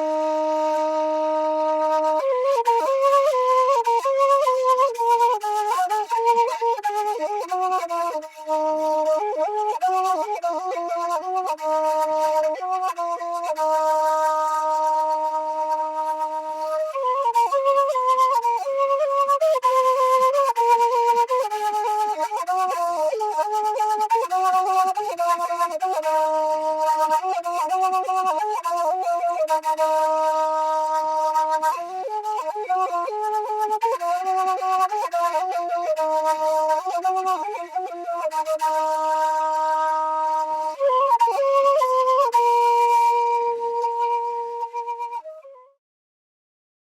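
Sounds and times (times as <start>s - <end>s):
flute playing slow melody: 0.0s - 45.8s.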